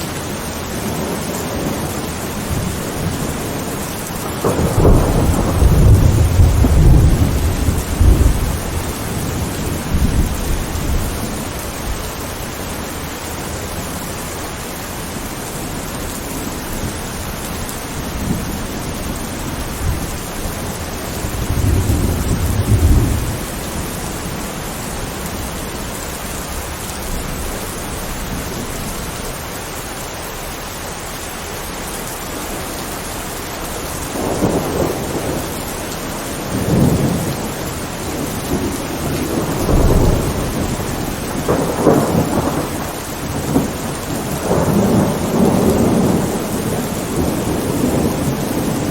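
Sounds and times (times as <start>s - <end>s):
thunder rumbling: 0.0s - 29.6s, 32.2s - 48.9s
heavy rain: 0.0s - 48.9s.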